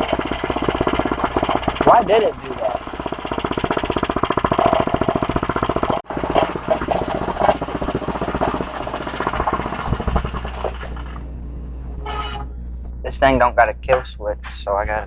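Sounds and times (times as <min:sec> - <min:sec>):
small engine running: 0:00.0 - 0:12.8.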